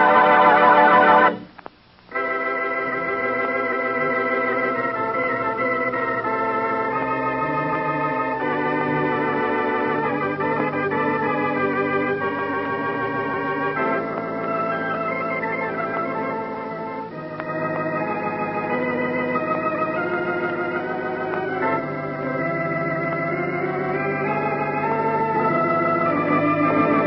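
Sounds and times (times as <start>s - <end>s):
slow held organ chords: 0.0s - 27.0s.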